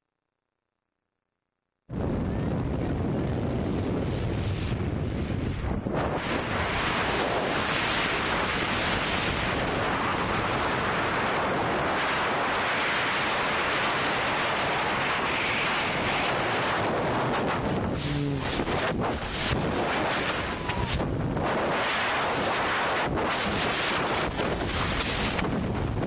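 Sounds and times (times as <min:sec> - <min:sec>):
wind rushing over microphone: 0:01.9 - 0:26.0.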